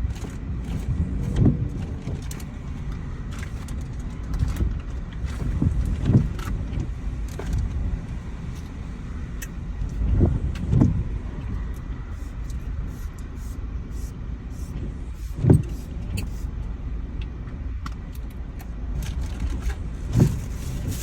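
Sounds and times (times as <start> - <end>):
road and engine rumble: 0.0 - 21.0.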